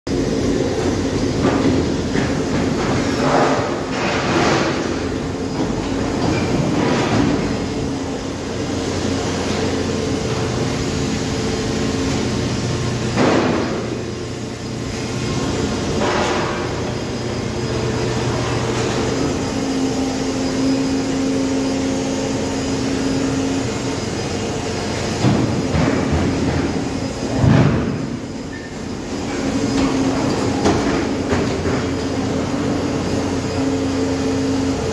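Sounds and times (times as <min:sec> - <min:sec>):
machinery droning hum: 0:00.1 - 0:34.9.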